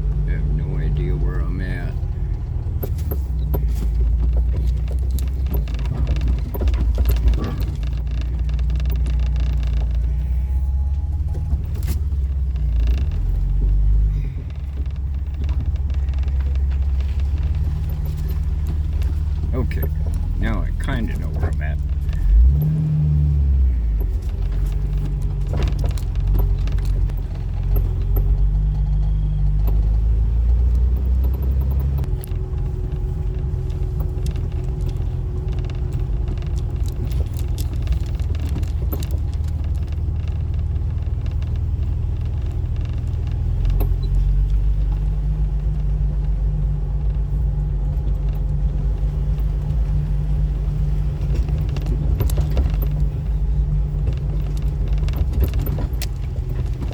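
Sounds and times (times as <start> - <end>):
car engine and road rumble: 0.0 - 56.9
light rattling and clicks: 0.0 - 56.9.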